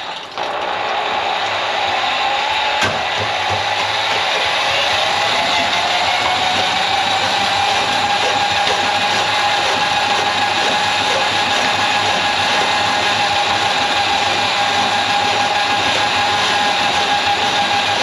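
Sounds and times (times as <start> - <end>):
drain auger motor whining: 0.0 - 18.0.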